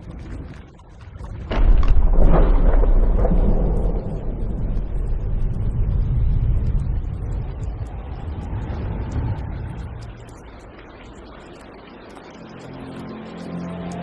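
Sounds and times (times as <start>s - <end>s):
deep heavy rumble: 0.0s - 12.1s.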